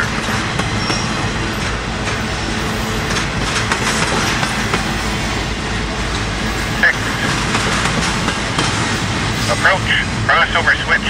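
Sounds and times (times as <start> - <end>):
train rolling past rumble: 0.0 - 11.0.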